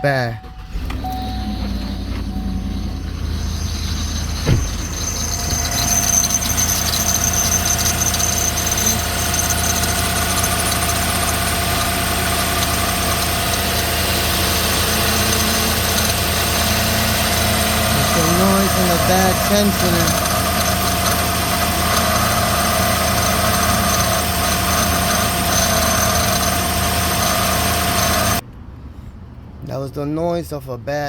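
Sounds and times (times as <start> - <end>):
car engine running: 0.0 - 28.4
steady belt squeal: 0.0 - 28.4.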